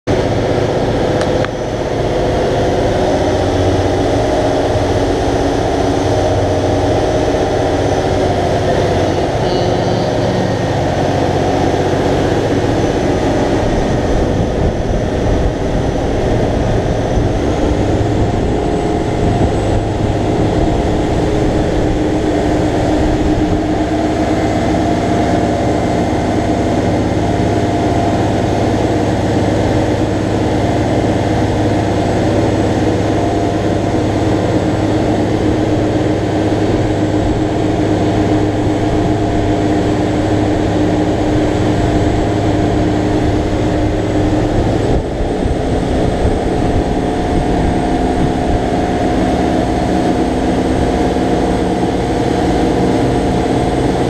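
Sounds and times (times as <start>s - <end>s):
motor boat engine running: 0.0s - 54.0s
rush of churning wake: 0.1s - 54.0s.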